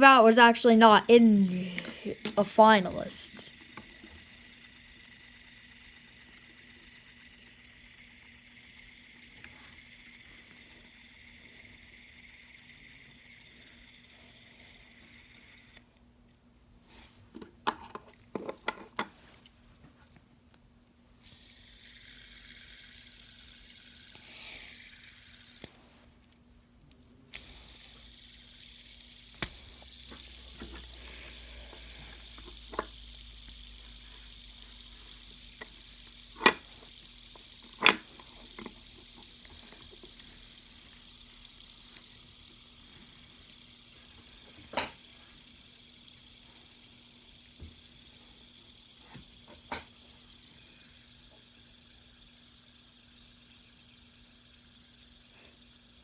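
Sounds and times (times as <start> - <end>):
fidget spinners whirring: 0.0 - 16.0, 21.2 - 56.0.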